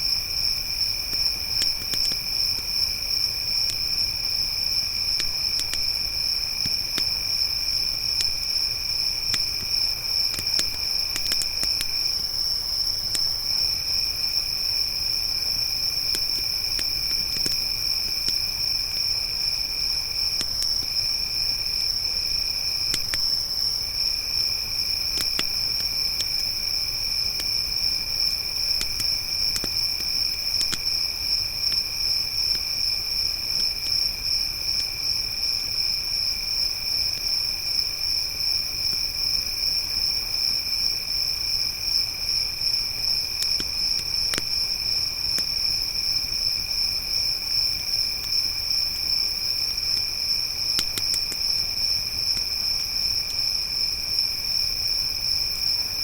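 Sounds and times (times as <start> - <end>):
crickets trilling: 0.0 - 56.0
campfire crackling: 0.1 - 34.9, 41.8 - 53.5.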